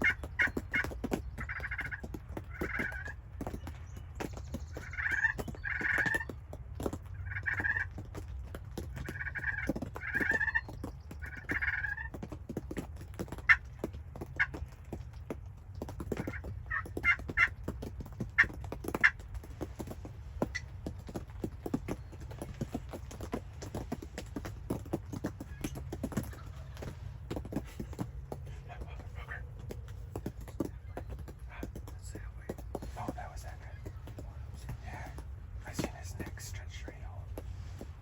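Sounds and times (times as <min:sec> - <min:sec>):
turkey gobbling: 0:00.0 - 0:38.0.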